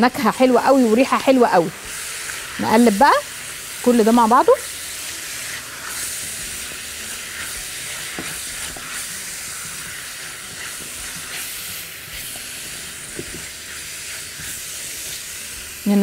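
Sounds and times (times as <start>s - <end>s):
meat sizzling in a wok: 0.0s - 16.0s.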